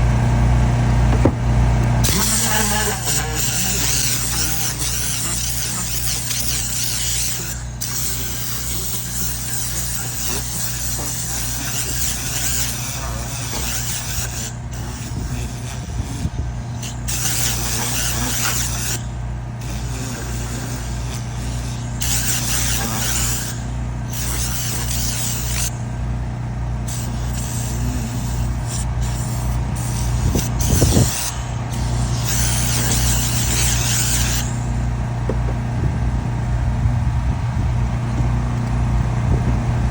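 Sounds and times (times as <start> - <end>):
steady motor hum: 0.0 - 39.9
air blow gun hissing: 1.1 - 26.0, 26.8 - 35.5.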